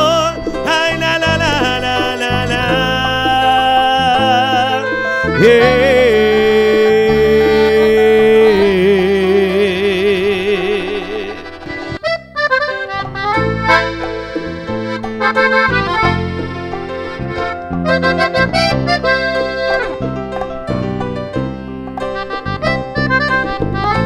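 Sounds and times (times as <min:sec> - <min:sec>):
accordion playing held notes: 0:00.0 - 0:24.0
bass: 0:00.0 - 0:24.0
keyboard: 0:00.0 - 0:24.0.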